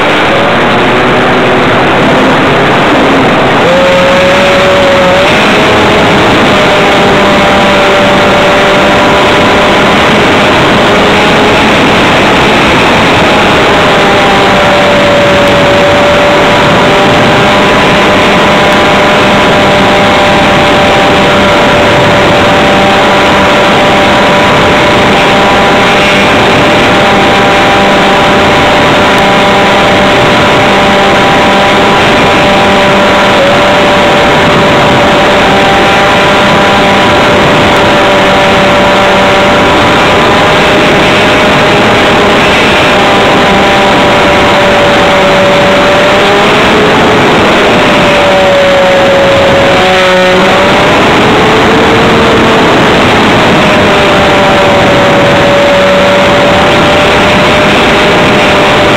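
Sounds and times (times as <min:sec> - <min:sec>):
model airplane motor running: 0:00.0 - 0:58.9.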